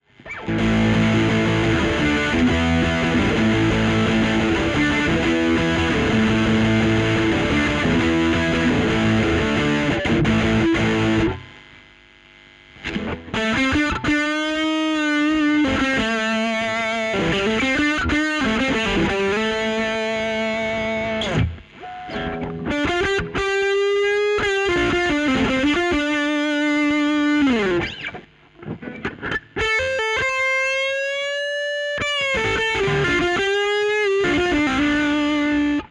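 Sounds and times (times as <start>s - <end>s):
distorted electric guitar: 0.0s - 35.9s.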